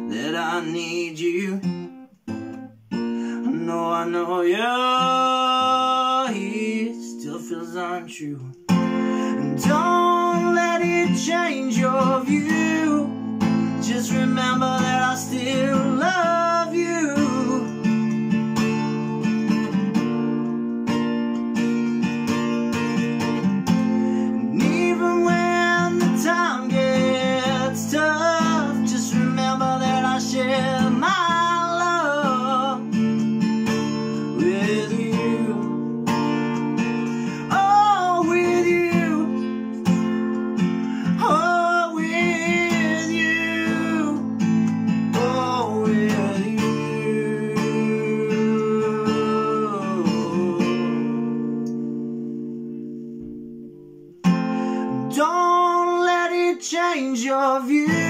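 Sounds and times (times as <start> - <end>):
man singing: 0.0 - 2.0, 3.3 - 19.7, 23.7 - 51.8, 54.9 - 58.0
acoustic guitar strumming: 0.0 - 58.0.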